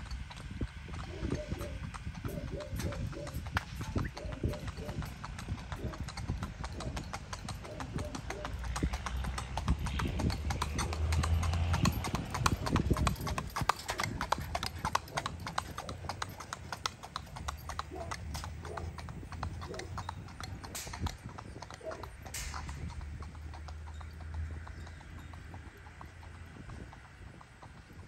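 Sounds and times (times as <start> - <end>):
hooves clip-clopping on asphalt: 0.0 - 28.0.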